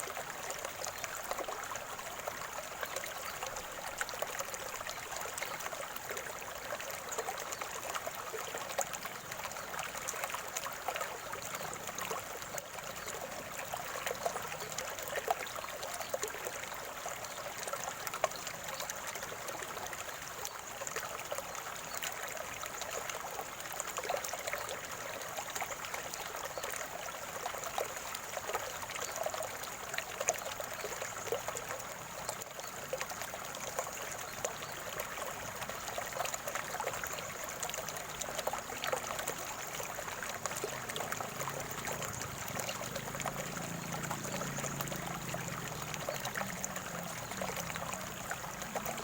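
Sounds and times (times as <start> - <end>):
water trickling and gurgling: 0.0 - 49.0.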